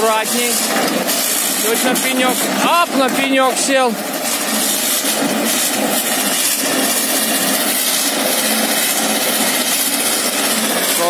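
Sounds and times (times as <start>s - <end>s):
diesel engine under load: 0.0s - 11.0s
tracks churning in snow: 0.0s - 11.0s.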